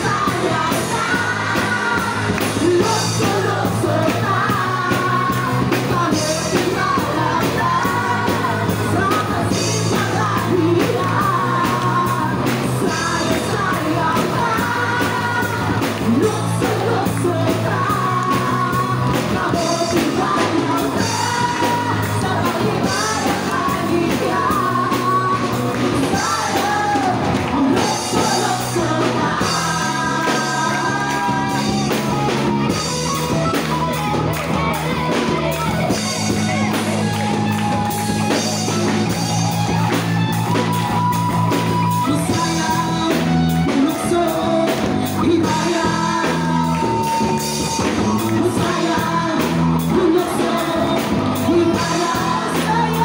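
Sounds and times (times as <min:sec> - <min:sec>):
drum kit beat: 0:00.0 - 0:53.0
women singing: 0:00.0 - 0:53.0.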